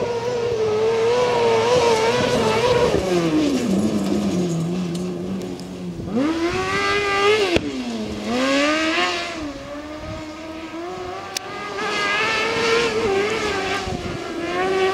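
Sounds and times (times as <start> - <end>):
racing engine revving: 0.0 - 14.9.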